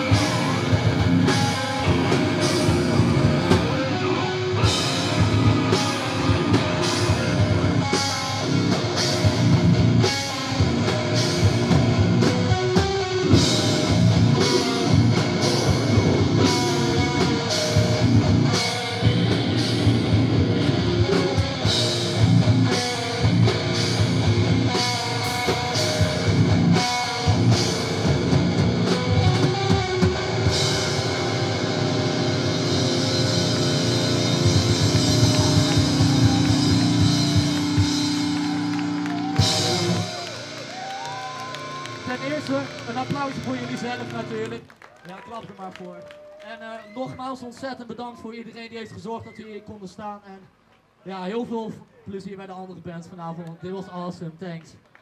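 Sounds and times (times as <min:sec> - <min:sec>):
drum kit with cymbal and snare: 0:00.0 - 0:44.3
distorted electric guitars: 0:00.0 - 0:44.6.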